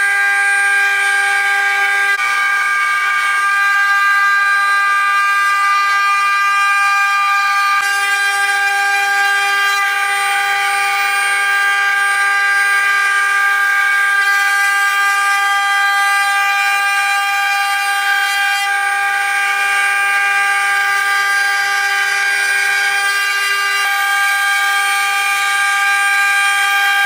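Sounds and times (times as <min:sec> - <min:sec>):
router spindle motors whining: 0:00.0 - 0:27.0.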